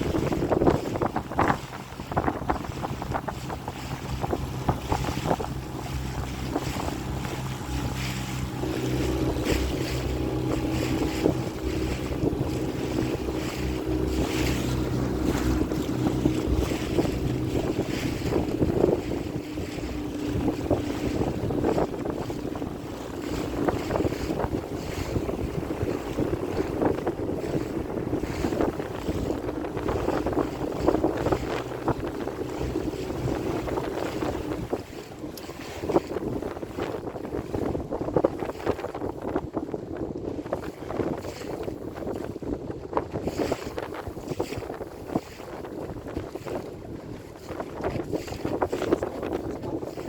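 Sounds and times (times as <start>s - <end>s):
motorboat engine running: 0.0s - 50.0s
water noise around hull: 0.0s - 50.0s
wind buffeting microphone: 0.0s - 50.0s.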